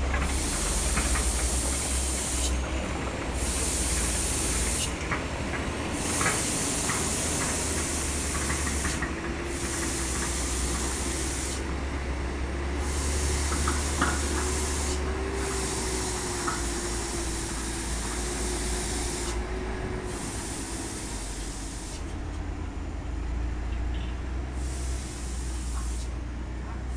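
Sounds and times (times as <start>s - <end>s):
diesel truck engine droning: 0.0s - 26.9s
loud hiss: 0.2s - 2.7s, 3.3s - 5.0s, 5.9s - 22.2s, 24.6s - 26.2s.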